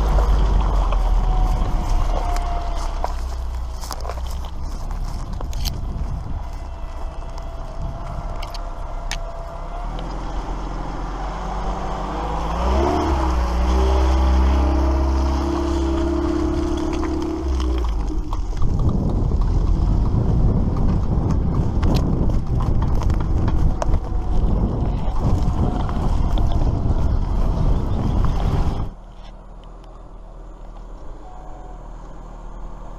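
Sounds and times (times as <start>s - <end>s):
rough rumble of travel noise: 0.0s - 32.9s
engine speeding up: 4.9s - 32.9s.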